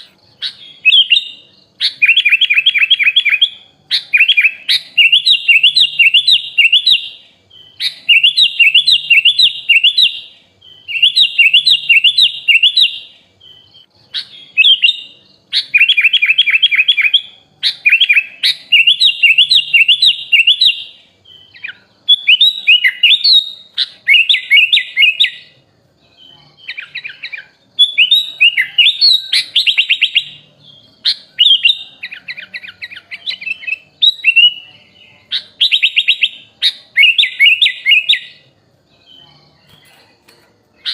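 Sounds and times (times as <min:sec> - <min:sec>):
bird singing chattering phrases: 0:00.0 - 0:40.9.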